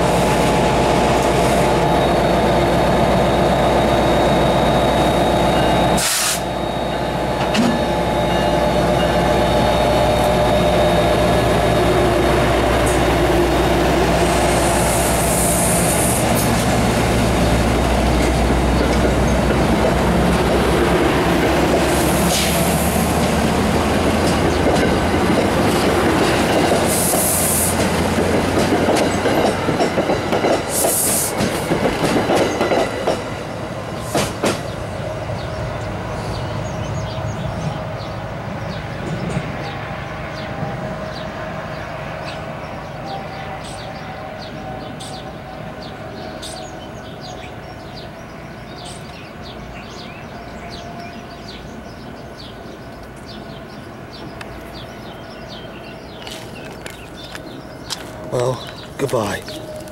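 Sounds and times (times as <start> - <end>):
locomotive engine drone: 0.0 - 30.7, 33.0 - 59.9
train wheel rumble: 0.0 - 59.9.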